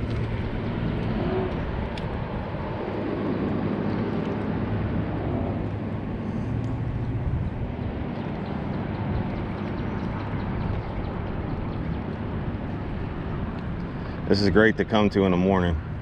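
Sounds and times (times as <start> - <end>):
outboard motor humming: 0.0 - 16.0.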